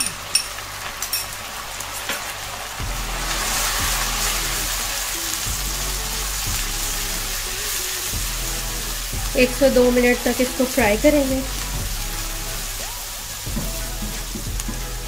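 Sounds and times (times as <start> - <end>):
food sizzling in hot oil: 0.0 - 15.0
spatula stirring in a wok: 1.9 - 15.0
background music: 2.8 - 15.0.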